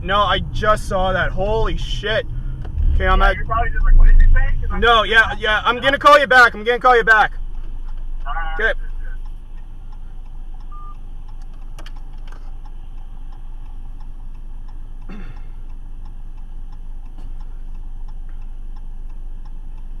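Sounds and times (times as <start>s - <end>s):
car engine idling: 0.0s - 20.0s
car indicator relay ticking: 0.0s - 20.0s
passing traffic: 0.0s - 20.0s.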